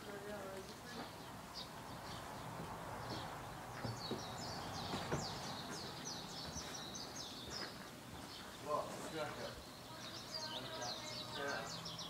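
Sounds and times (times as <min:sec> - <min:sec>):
outdoor background hiss: 0:00.0 - 0:12.0
songbird chirping: 0:00.0 - 0:12.0.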